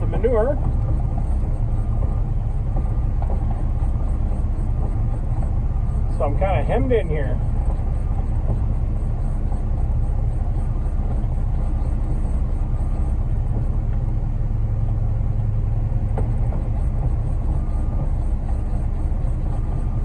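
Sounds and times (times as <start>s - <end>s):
diesel engine low rumble: 0.0s - 20.0s.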